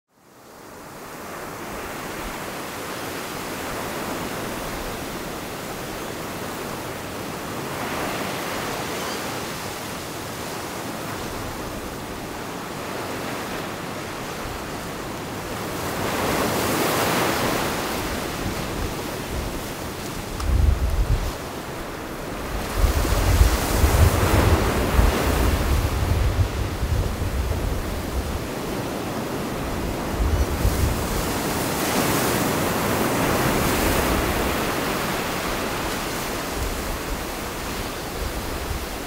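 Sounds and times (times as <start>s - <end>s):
sea waves breaking on beach: 0.5s - 39.0s.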